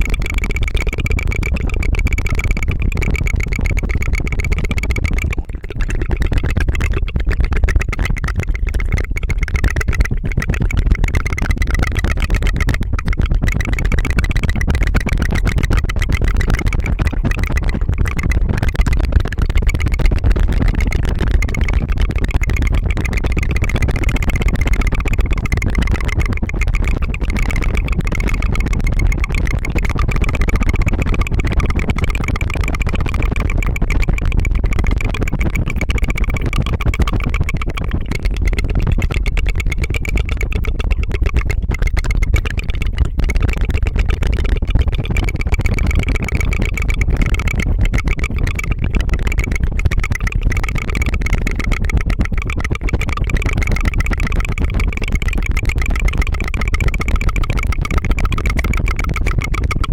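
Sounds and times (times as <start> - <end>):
tongue fluttering trill: 0.0 - 59.9.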